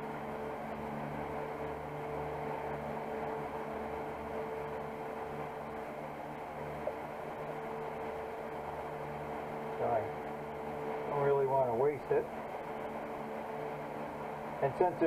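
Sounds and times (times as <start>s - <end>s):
electric fans whirring: 0.0s - 15.0s.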